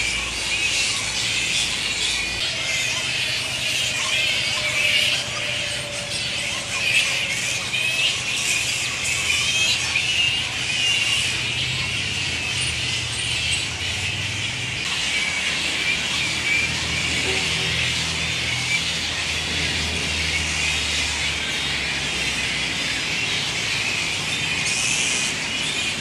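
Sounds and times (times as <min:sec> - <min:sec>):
flying foxes squealing: 0:00.0 - 0:26.0.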